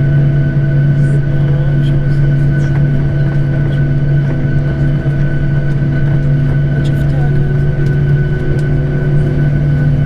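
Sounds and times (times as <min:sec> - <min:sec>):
airliner cabin hum: 0:00.0 - 0:10.0.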